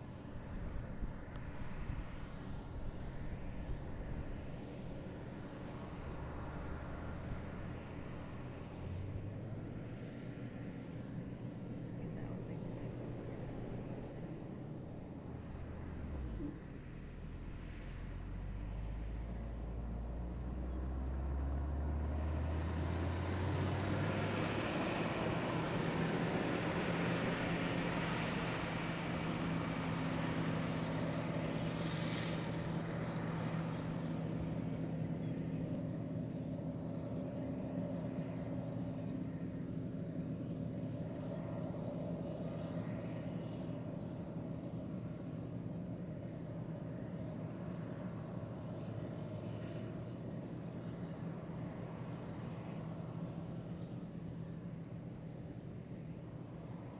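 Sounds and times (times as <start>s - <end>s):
heavy vehicle engine droning: 0.0s - 56.9s.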